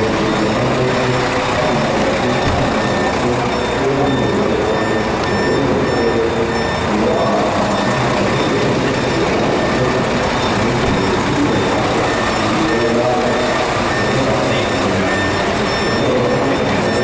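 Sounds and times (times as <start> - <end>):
faint high electronic beep: 0.0 - 17.0
fire truck engine running: 0.0 - 17.0.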